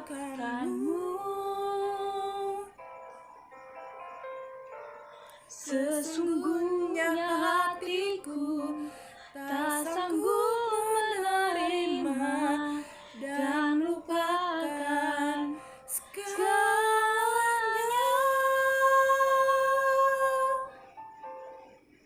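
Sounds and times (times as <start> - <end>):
woman singing: 0.0 - 2.8, 5.4 - 20.7.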